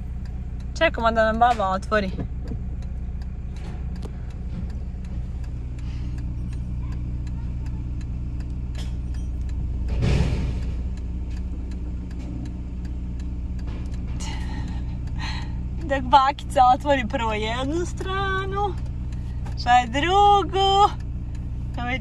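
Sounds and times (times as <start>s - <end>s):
car engine idling: 0.0s - 22.0s
steady ticking: 0.0s - 22.0s.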